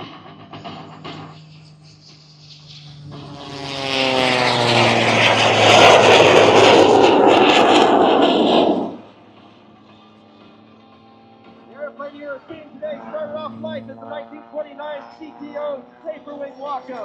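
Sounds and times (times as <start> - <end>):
loud jet roar: 0.0 - 9.3, 11.8 - 17.0
biplane engine passing by: 0.0 - 17.0.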